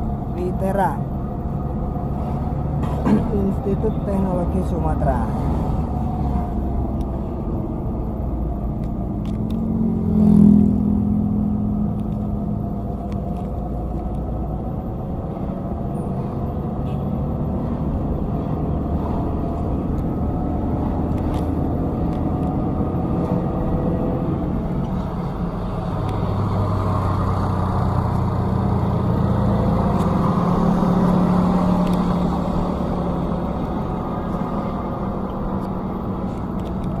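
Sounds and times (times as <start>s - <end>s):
heavy vehicle engines rumbling: 0.0s - 37.0s.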